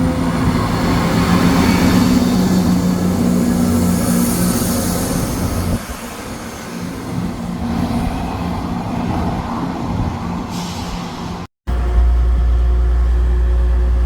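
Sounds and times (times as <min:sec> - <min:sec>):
diesel train engine humming: 0:00.0 - 0:14.0
rail noise: 0:00.0 - 0:14.0.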